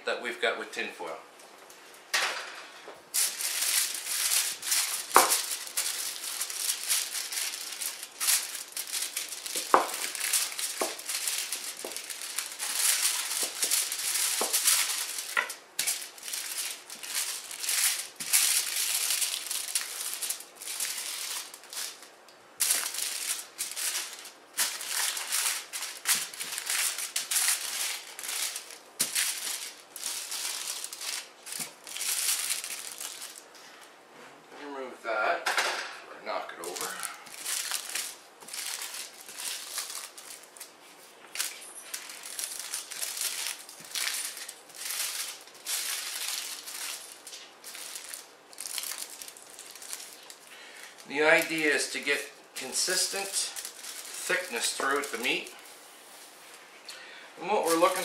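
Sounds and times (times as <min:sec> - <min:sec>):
aluminium foil crinkling: 0:03.1 - 0:33.5, 0:36.6 - 0:56.6, 0:57.6 - 0:58.0.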